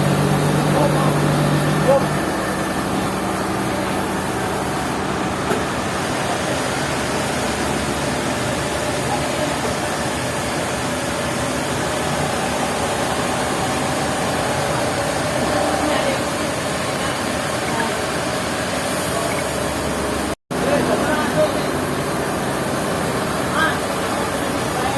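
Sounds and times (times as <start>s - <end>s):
sawmill machinery drone: 0.0s - 24.9s.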